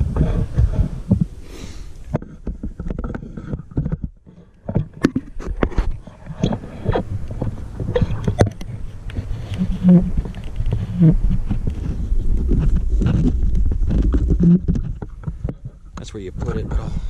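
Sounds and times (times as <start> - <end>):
hose handling clicks and scrapes: 0.0 - 17.0.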